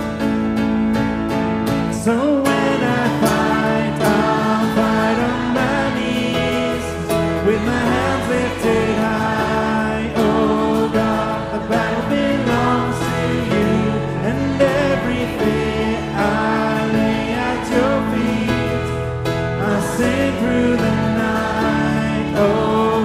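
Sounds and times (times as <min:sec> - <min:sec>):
acoustic guitar: 0:00.0 - 0:23.0
electric bass guitar: 0:00.0 - 0:23.0
stage piano: 0:00.0 - 0:23.0
man singing: 0:01.9 - 0:23.0.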